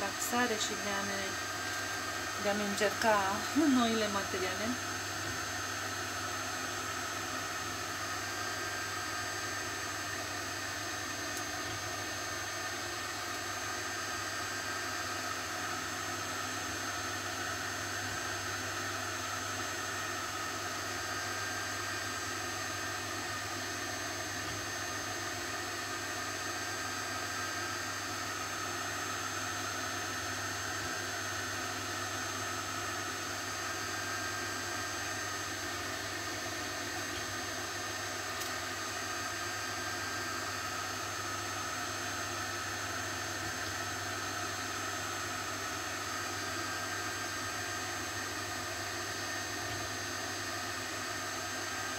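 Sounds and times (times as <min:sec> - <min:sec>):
machine hum and hiss: 0:00.0 - 0:51.9.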